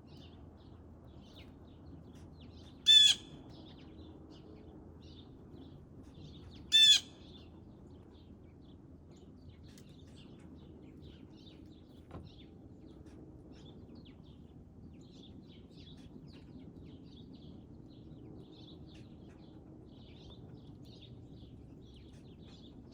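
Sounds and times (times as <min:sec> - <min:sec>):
outdoor background noise: 0:00.0 - 0:22.9.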